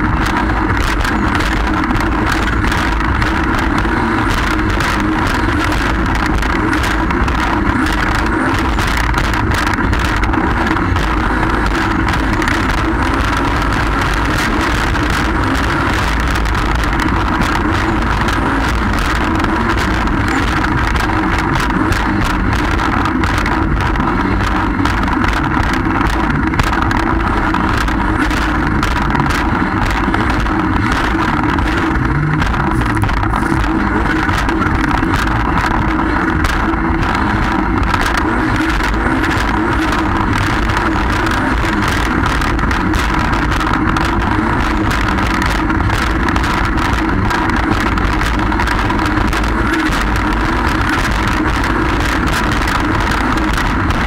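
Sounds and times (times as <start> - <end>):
jet ski engine rumble: 0.0 - 54.0
water rushing and splashing: 0.0 - 54.0.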